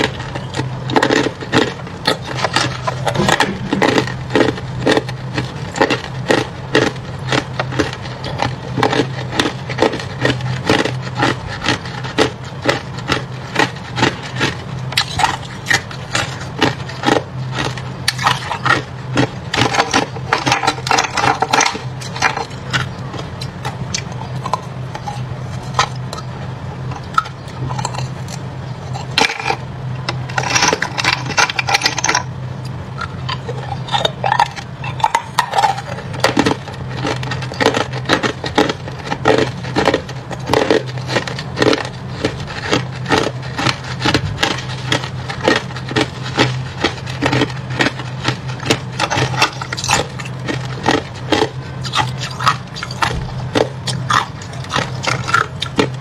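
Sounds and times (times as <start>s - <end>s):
ice being chewed: 0.0s - 56.0s
low hum: 0.0s - 56.0s.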